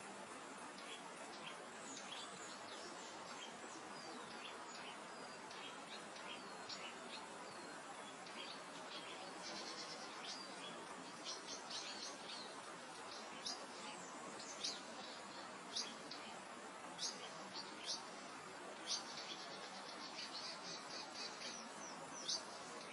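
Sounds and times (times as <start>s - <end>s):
gentle wind through grass: 0.0s - 22.9s
small birds chirping and trilling: 0.0s - 22.9s.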